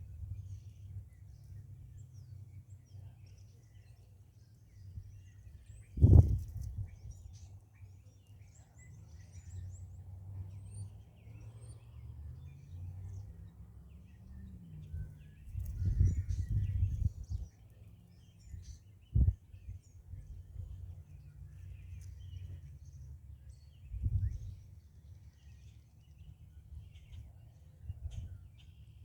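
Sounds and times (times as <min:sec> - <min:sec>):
faint bird chirps: 0:00.0 - 0:29.0.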